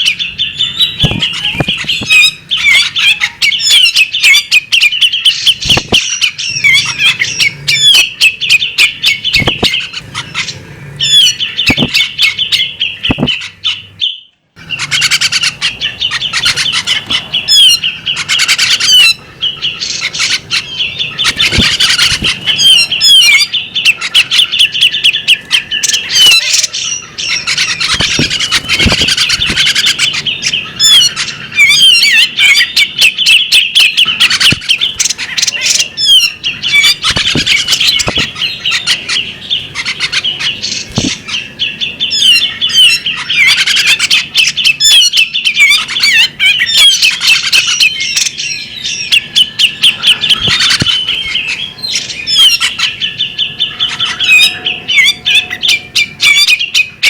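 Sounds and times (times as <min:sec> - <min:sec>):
bird singing chirps and whistles: 0:00.0 - 0:57.0.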